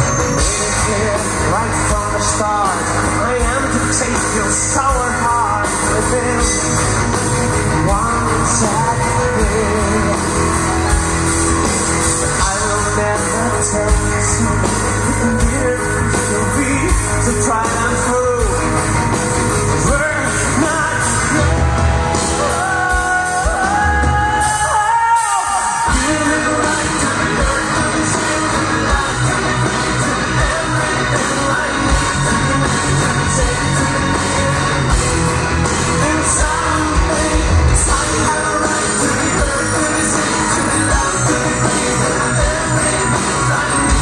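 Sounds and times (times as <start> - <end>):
live metal band playing: 0.0 - 44.0
person singing: 0.0 - 44.0.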